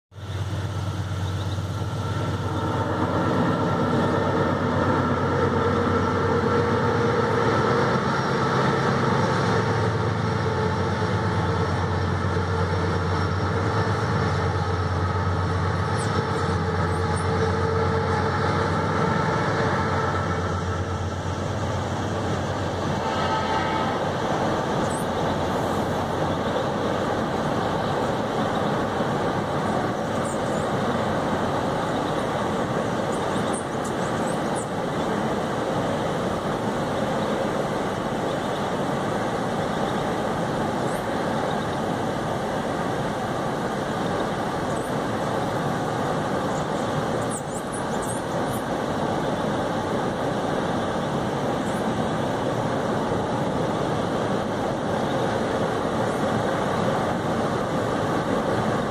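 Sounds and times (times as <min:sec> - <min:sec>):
freight train rumbling: 0:00.1 - 0:58.9.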